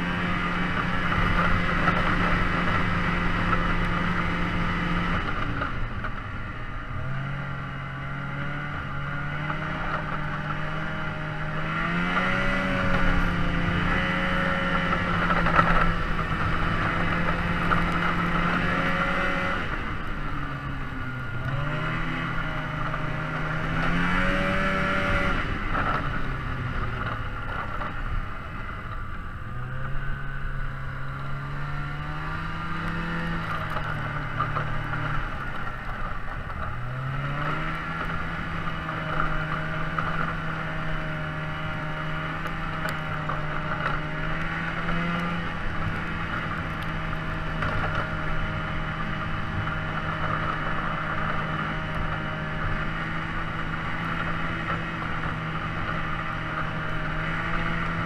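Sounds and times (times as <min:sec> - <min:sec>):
engine revving and changing gear: 0:00.0 - 0:58.0.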